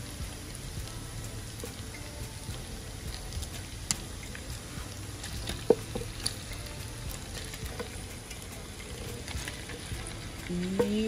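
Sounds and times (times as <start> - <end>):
shrimp sizzling in butter: 0.0 - 11.0.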